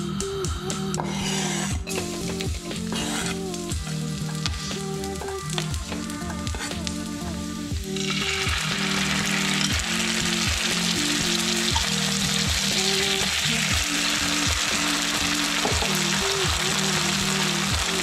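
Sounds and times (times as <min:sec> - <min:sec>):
lo-fi background music: 0:00.0 - 0:18.0
food sizzling in a wok: 0:01.1 - 0:18.0.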